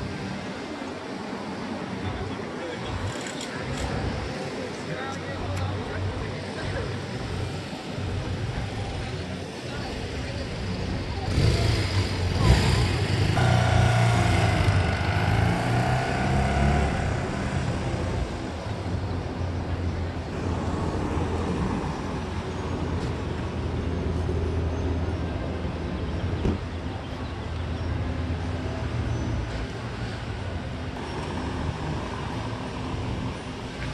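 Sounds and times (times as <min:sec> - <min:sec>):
steady traffic rumble: 0:00.0 - 0:33.9
passing vehicle engine and tyres: 0:05.4 - 0:27.0, 0:27.9 - 0:33.9.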